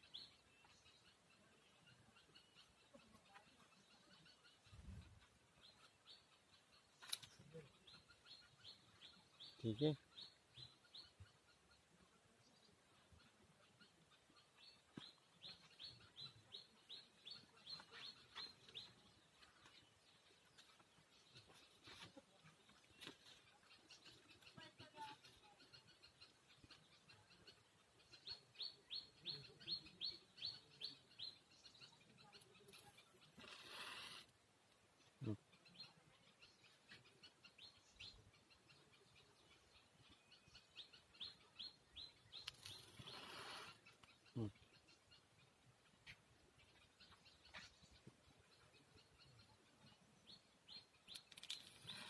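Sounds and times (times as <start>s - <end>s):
faint bird chirps: 0.0s - 52.0s.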